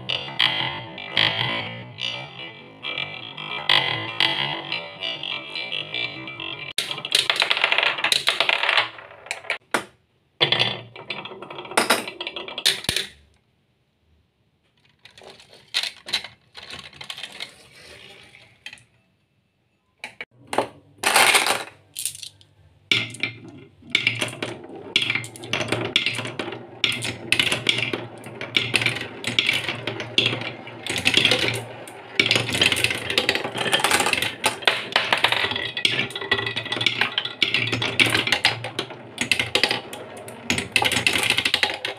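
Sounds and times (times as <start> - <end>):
marbles rolling on wooden run: 0.0 - 9.6, 14.8 - 18.9, 21.0 - 41.9.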